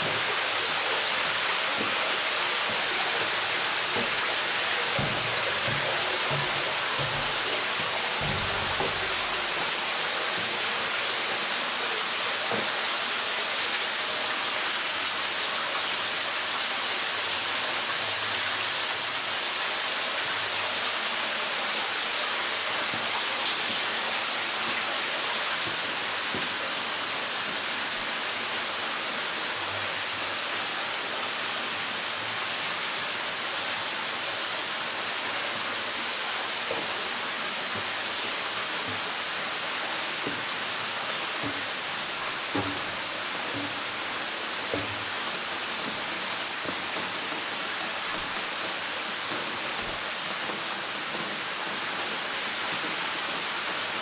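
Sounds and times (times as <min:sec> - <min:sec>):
waterfall rushing in a cave: 0:00.0 - 0:54.0.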